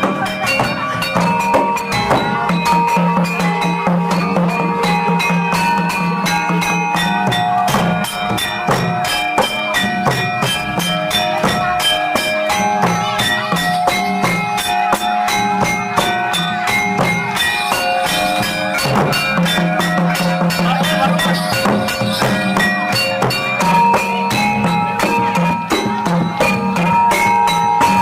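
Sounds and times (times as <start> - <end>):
drums playing quick beat: 0.0 - 28.0
metallophone tones ringing: 0.0 - 28.0.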